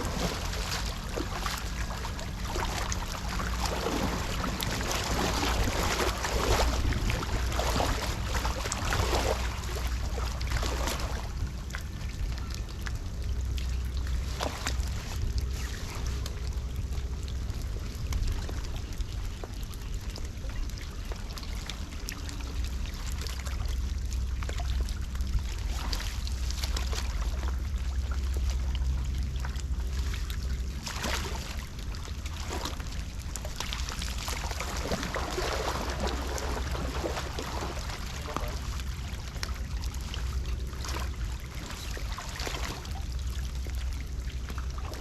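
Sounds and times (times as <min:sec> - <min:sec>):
low rumble: 0:00.0 - 0:45.0.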